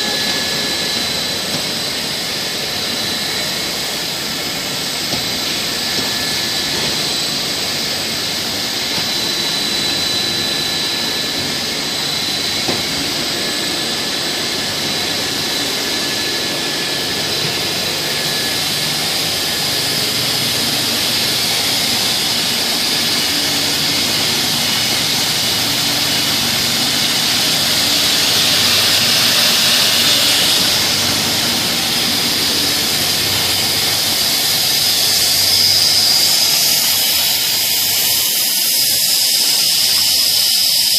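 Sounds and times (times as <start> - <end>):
production line machinery hiss and whine: 0.0 - 40.9.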